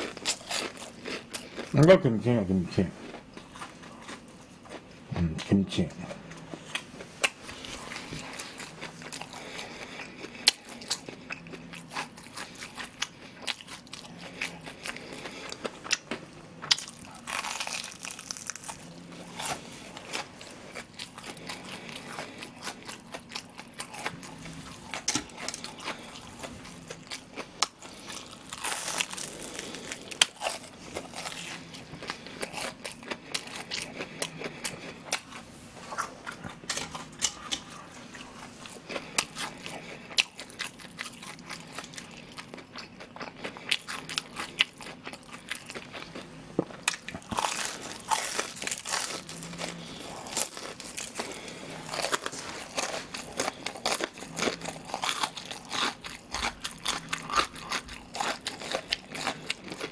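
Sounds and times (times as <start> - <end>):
crunching and chewing fried food: 0.0 - 59.9.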